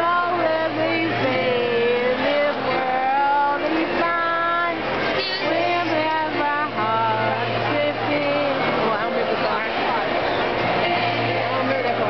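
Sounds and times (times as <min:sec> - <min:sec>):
voices singing held notes: 0:00.0 - 0:12.0.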